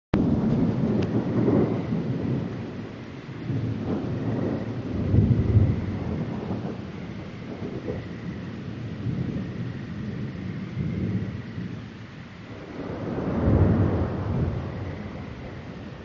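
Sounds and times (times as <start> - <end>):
steady rain: 0.2 - 16.0
thunder rumbling: 0.2 - 16.0.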